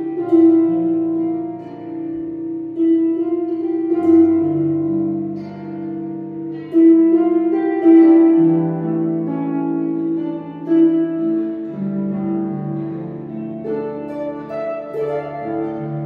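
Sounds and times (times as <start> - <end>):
harp plucked melody: 0.0 - 16.0.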